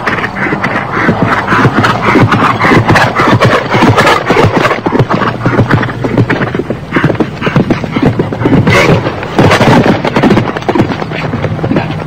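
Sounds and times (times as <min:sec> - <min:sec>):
horse hoofbeats galloping: 0:00.0 - 0:12.0.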